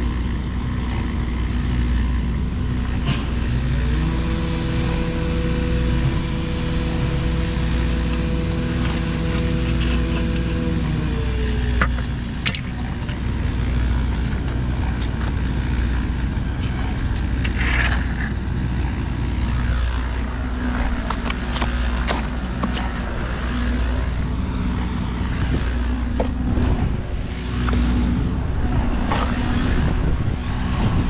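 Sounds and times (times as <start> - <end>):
engine rumbling: 0.0 - 31.0.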